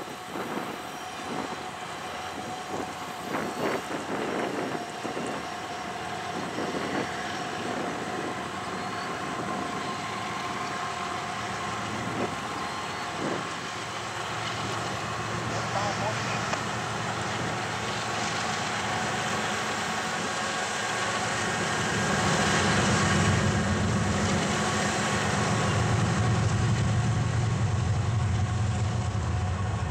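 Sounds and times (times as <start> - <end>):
freight train rumble on bridge: 0.0 - 29.9
train clanks: 0.0 - 29.9.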